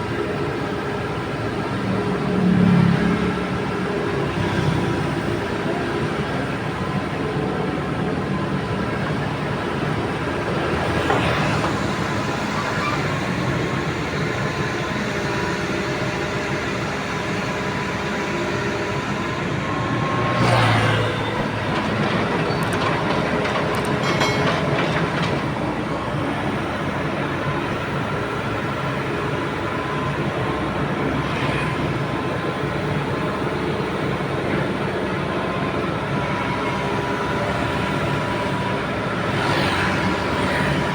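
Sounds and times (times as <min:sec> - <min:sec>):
heavy machine engine running: 0:00.0 - 0:40.9.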